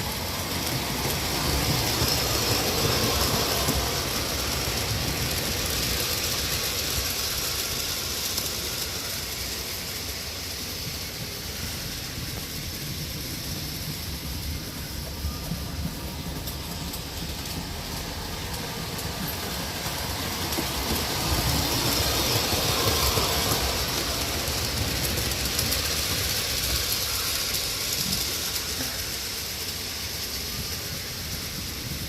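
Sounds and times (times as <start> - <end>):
model train rattling on track: 0.0 - 32.0.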